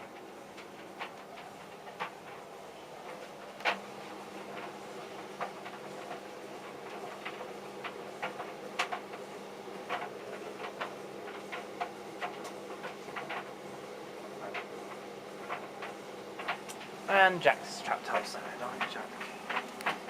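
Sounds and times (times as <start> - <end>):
tumble dryers humming: 0.0 - 20.0.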